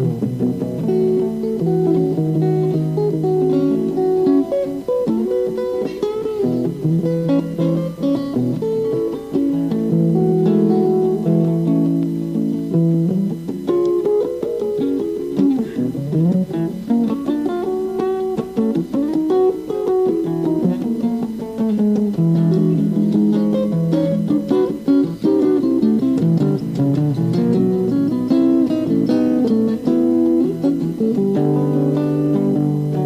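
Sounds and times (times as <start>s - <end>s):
guitar playing notes and chords: 0.0s - 33.0s.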